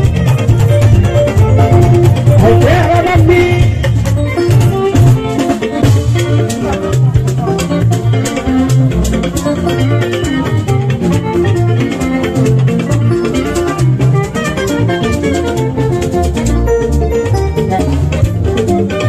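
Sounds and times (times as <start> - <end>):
plucked guitar lines: 0.0 - 19.0
strong bass line: 0.0 - 19.0.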